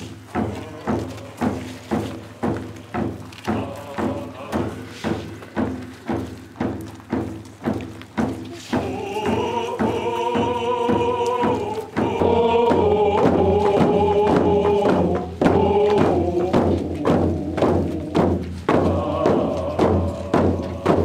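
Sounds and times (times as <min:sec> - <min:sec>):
voices singing together: 0:00.0 - 0:06.7, 0:08.5 - 0:21.0
hand drums beating: 0:00.0 - 0:21.0.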